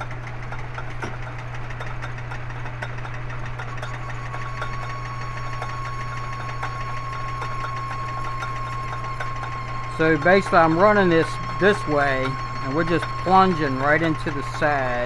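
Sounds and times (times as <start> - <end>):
machine spindle humming: 0.0 - 15.0
thin steady whine: 0.0 - 15.0.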